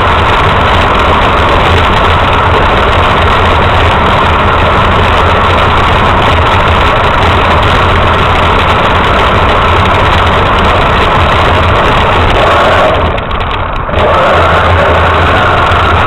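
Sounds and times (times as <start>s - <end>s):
rc truck motor running: 0.0s - 16.0s.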